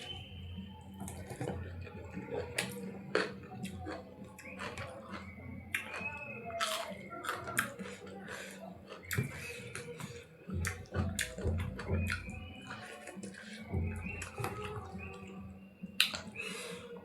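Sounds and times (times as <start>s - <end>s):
faint voice or music: 0.0s - 17.0s
person chewing with wet smacks: 0.8s - 16.8s.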